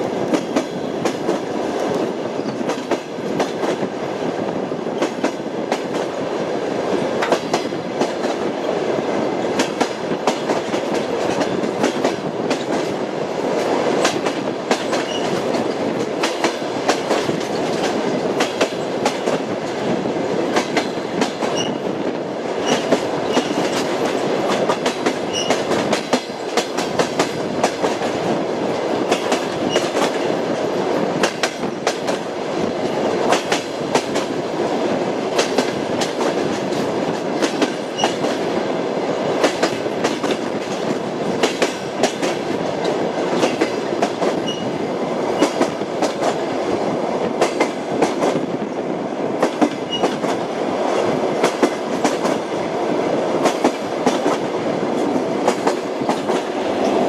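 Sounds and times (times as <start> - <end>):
train running rumble: 0.0 - 57.0
train wheels clacking on rails: 0.0 - 57.0.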